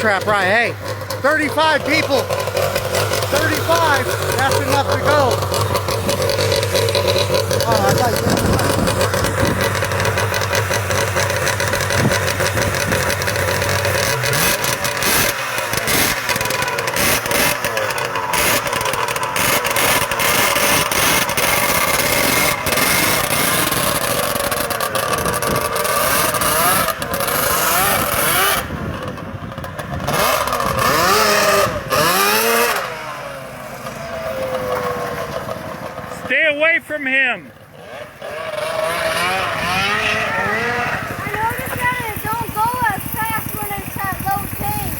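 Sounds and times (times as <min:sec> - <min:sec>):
go-kart engine revving: 0:00.0 - 0:44.9.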